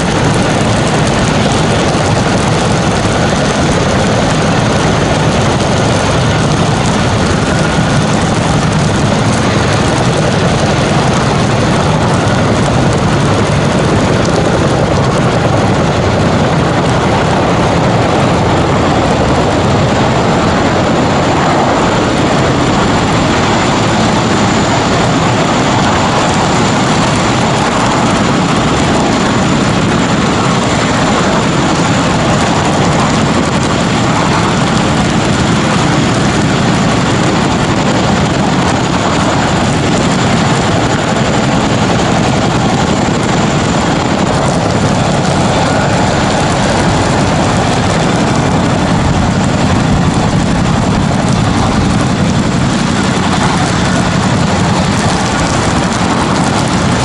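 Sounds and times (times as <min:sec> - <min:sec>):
helicopters flying over: 0:00.0 - 0:57.0.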